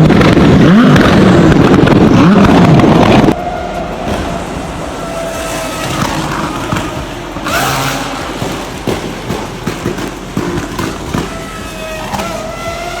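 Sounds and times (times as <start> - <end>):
car engine revving: 0.0 - 13.0
exhaust pops and bangs: 0.0 - 13.0.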